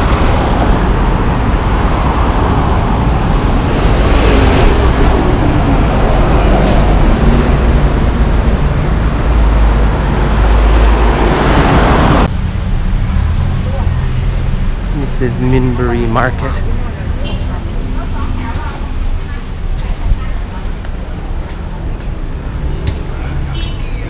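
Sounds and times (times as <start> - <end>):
car and bus engines: 0.0 - 24.0.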